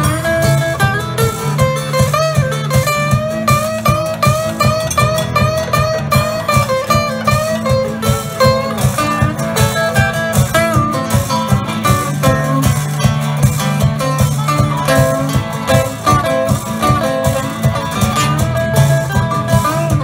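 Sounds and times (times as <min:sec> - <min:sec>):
blues band playing: 0:00.0 - 0:20.0
drums with steady beat: 0:00.0 - 0:20.0
high guitar riff with bent note: 0:00.0 - 0:20.0.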